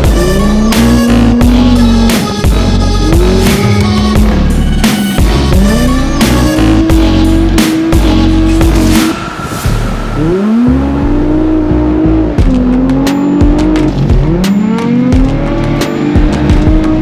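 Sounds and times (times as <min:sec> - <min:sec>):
race car engine revving: 0:00.0 - 0:09.2, 0:10.0 - 0:17.0.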